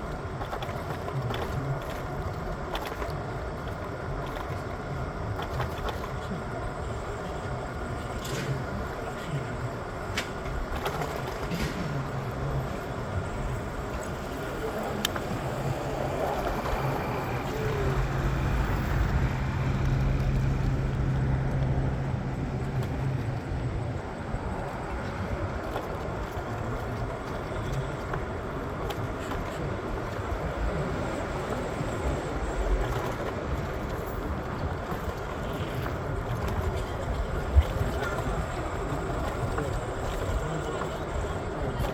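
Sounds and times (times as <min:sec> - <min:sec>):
low hum: 0:00.0 - 0:41.9
vehicle rumble: 0:00.0 - 0:41.9.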